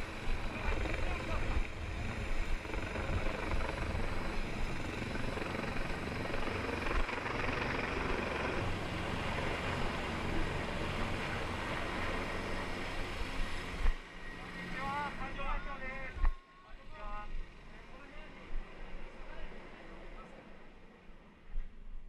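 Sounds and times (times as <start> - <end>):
helicopter rotor and engine: 0.0 - 21.7.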